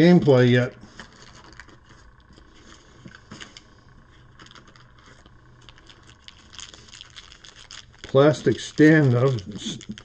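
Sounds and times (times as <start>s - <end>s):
low steady hum: 0.0s - 10.0s
plastic bags and pieces rustling: 0.0s - 10.0s.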